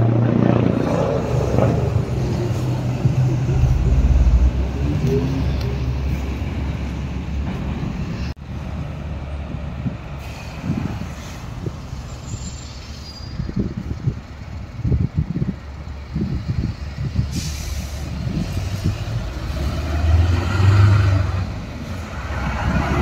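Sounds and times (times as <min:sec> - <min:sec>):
street traffic: 0:00.0 - 0:23.0
truck engine rumble: 0:00.0 - 0:23.0.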